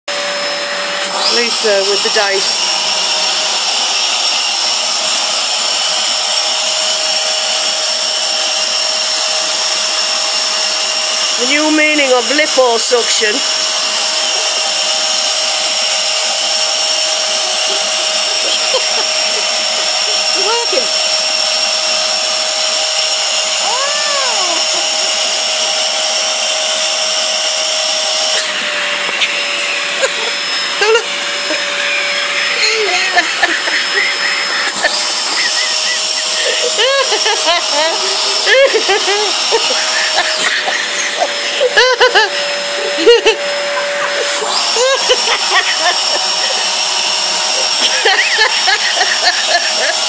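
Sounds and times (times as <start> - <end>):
vacuum cleaner whining: 0.1 - 50.0.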